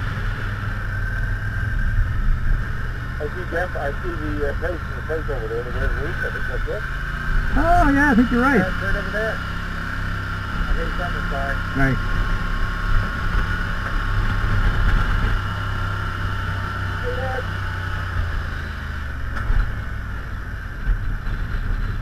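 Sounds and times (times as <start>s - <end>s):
atv engine running: 0.0s - 22.0s
wind and road noise: 0.0s - 22.0s.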